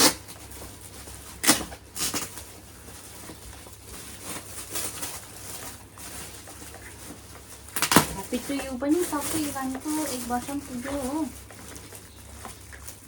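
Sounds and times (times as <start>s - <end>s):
gift packaging rustling: 0.0s - 13.0s
sharp packaging crackle: 0.0s - 13.0s.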